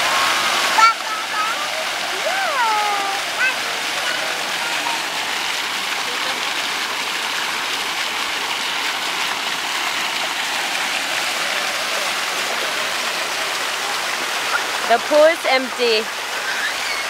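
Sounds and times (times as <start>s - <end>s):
fountain water spraying and pouring: 0.0s - 17.0s.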